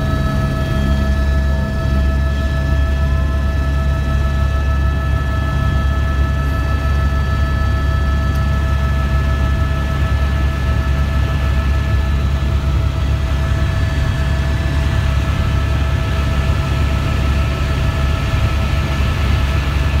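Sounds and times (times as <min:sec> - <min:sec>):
helicopter deep rumble: 0:00.0 - 0:20.0
helicopter whine: 0:00.0 - 0:20.0.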